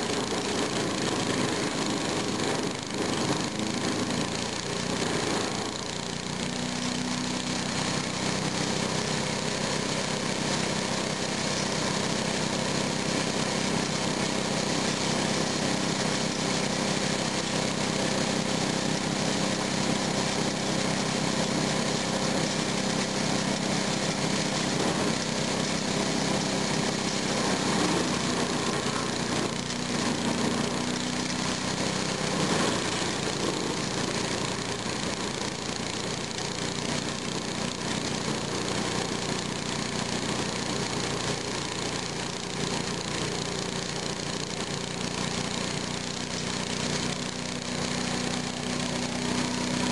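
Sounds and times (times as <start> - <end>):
shredder engine running: 0.0 - 49.9.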